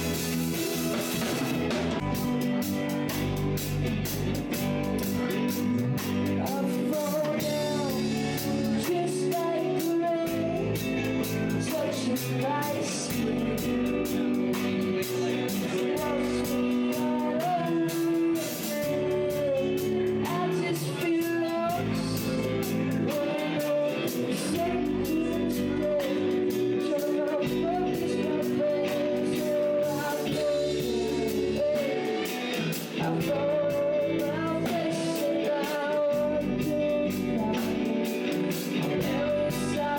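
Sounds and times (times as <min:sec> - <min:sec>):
band music with singer: 0:00.0 - 0:39.9.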